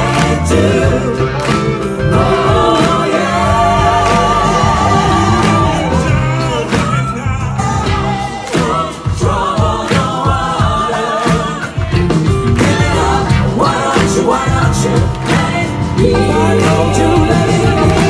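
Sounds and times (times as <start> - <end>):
musical accompaniment: 0.0 - 18.0
vocal ensemble singing: 0.0 - 18.0.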